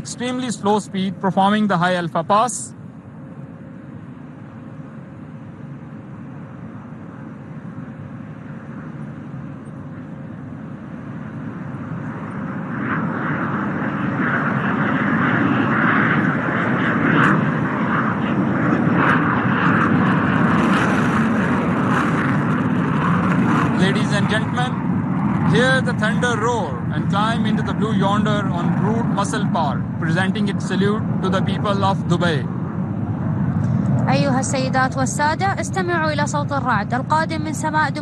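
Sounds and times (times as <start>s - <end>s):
jet engine rumble: 0.0s - 38.0s.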